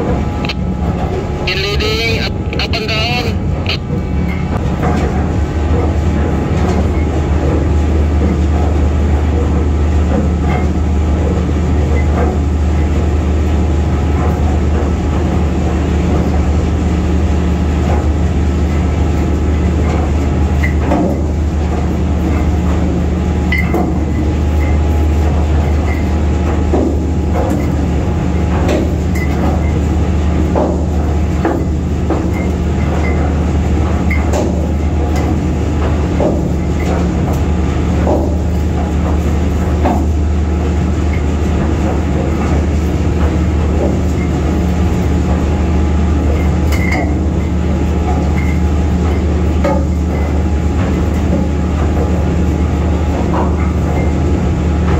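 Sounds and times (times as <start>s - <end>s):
low machinery hum: 0.0s - 54.9s.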